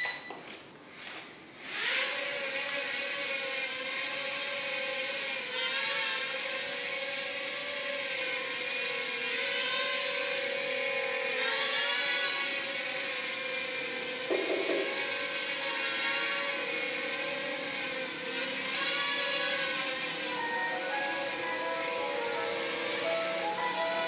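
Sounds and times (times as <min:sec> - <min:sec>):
quadcopter propellers whining: 0:01.6 - 0:24.0.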